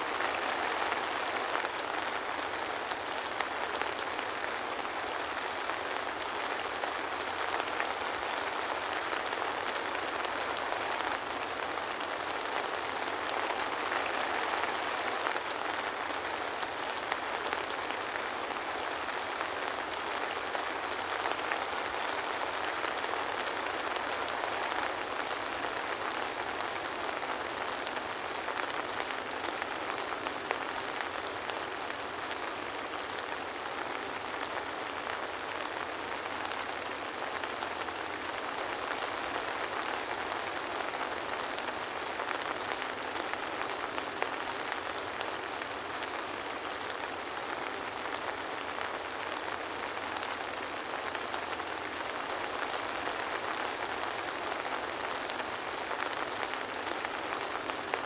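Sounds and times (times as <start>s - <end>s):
soft rain patter: 0.0s - 58.0s.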